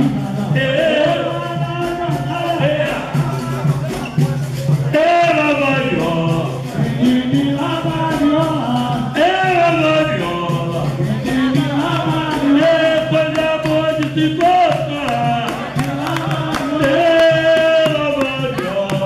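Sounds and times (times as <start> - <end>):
hand drum beat: 0.0 - 19.0
men singing: 0.0 - 19.0.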